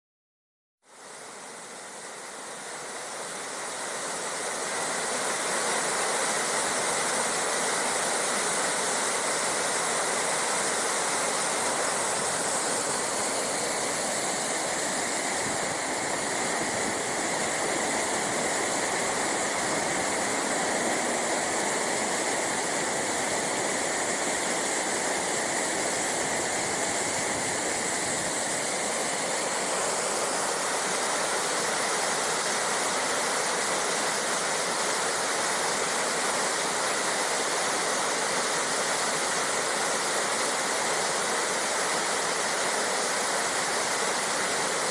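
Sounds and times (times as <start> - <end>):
waterfall rushing: 0.9 - 44.9.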